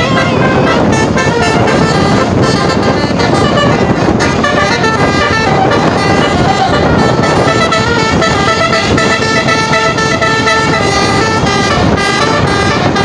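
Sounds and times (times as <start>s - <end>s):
bus musical horn playing tune: 0.0s - 13.0s
steady noisy rumble: 0.0s - 13.0s.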